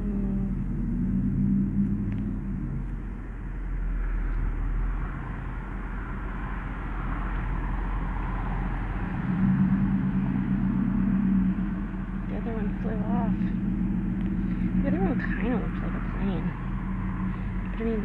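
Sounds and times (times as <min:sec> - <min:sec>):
steady low hum: 0:00.0 - 0:18.0
vehicle passing: 0:00.0 - 0:18.0.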